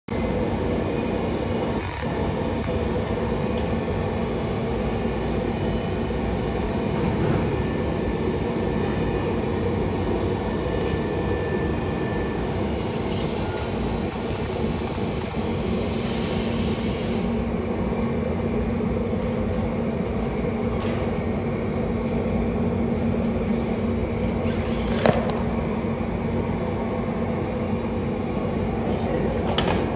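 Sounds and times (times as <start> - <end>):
machine rumble with low hum: 0.1 - 29.9.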